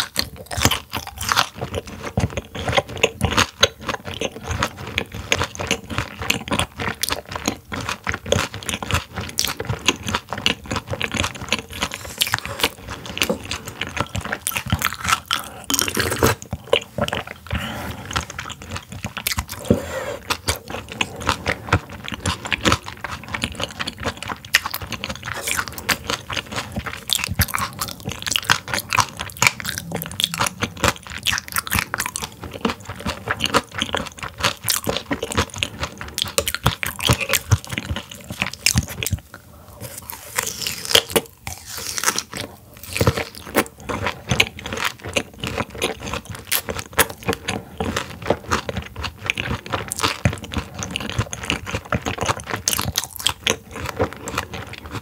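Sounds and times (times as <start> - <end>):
chewing raw fish with crunches: 0.0 - 55.0.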